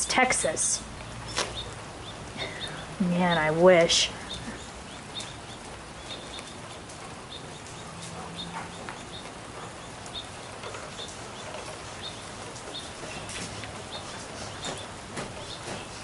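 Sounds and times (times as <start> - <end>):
rain falling: 0.0 - 16.0
small birds chirping: 0.0 - 16.0.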